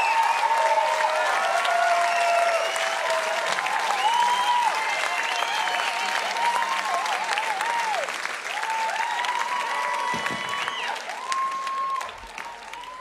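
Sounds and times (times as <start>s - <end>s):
audience applauding: 0.0s - 13.0s
crowd cheering: 0.0s - 13.0s.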